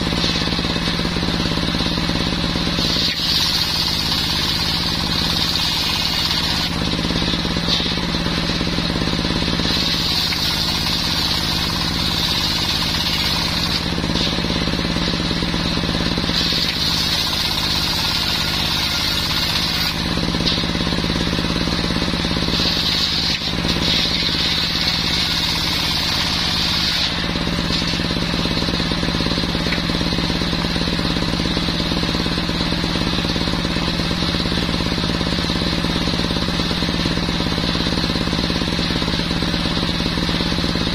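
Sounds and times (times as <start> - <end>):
saw blade whining through wood: 0.0 - 40.9
small petrol engine running: 0.0 - 40.9.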